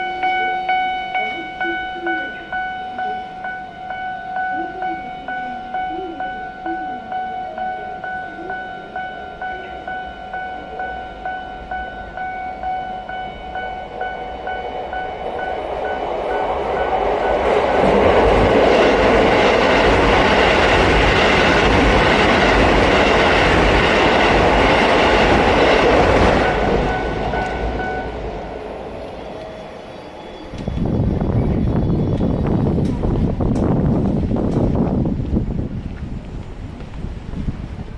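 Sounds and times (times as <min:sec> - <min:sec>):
level crossing warning bell: 0:00.0 - 0:30.6
train rumbling past: 0:00.0 - 0:37.9.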